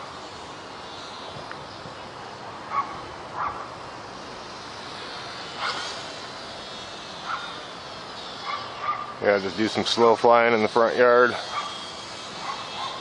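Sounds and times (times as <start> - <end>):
rc plane motor and propeller: 0.0 - 13.0.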